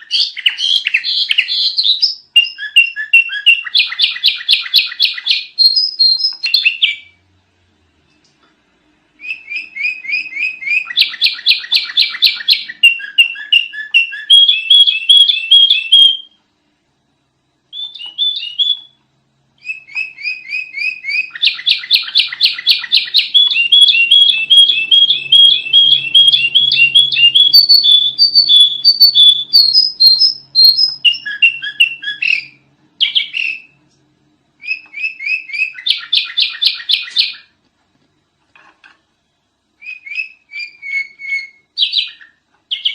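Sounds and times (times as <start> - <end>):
bird chirping rapidly: 0.0 - 7.2, 9.2 - 16.4, 17.7 - 19.0, 19.6 - 33.8, 34.6 - 37.6, 39.8 - 42.9.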